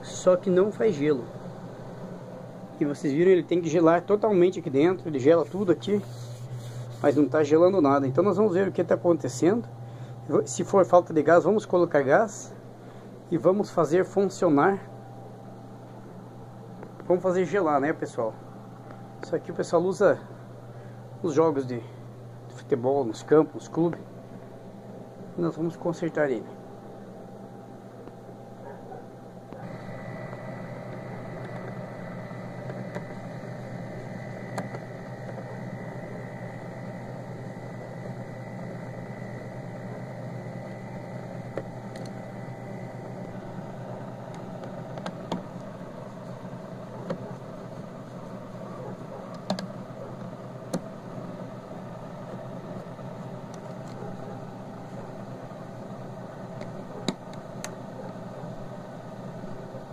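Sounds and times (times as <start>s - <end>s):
refrigerator fan and compressor hum: 0.0s - 59.9s
thin whine: 0.0s - 59.9s.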